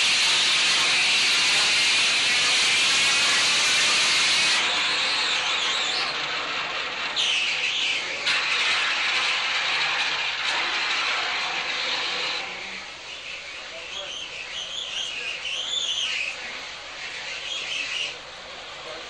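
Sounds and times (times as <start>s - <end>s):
sawmill machinery hissing and whining: 0.0s - 19.0s.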